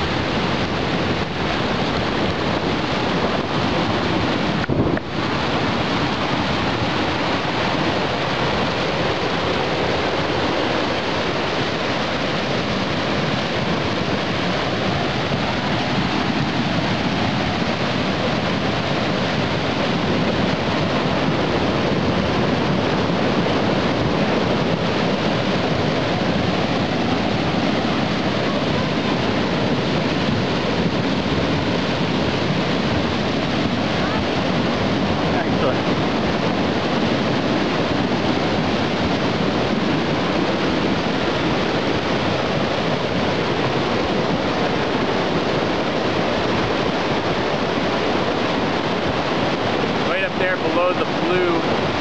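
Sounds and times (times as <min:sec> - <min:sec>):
muddy water rushing over rocks: 0:00.0 - 0:52.0.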